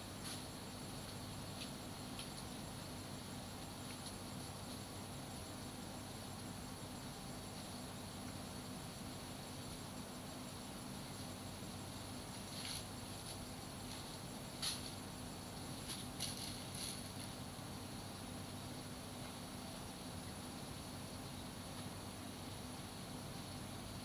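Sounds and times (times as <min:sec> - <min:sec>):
crickets trilling: 0:00.0 - 0:24.0
faint low hum: 0:00.0 - 0:24.0.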